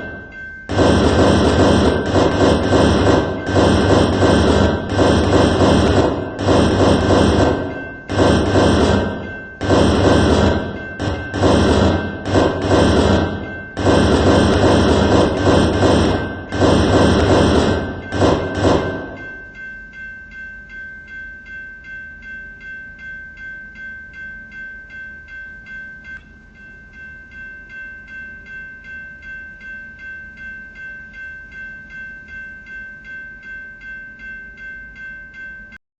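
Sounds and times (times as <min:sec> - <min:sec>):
railroad crossing bell ringing: 0:00.0 - 0:35.8.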